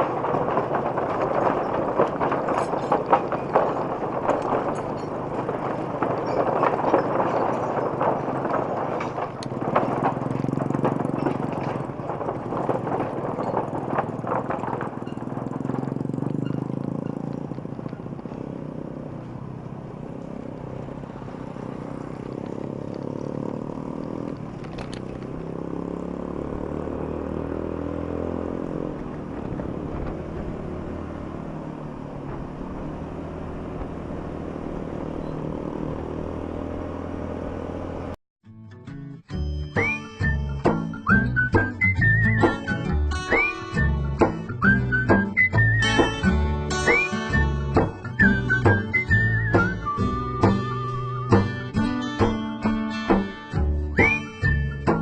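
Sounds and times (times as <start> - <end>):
vehicles passing with rattle: 0.0 - 38.2, 39.2 - 55.0
engine running rising in pitch: 3.6 - 38.2, 39.3 - 55.0.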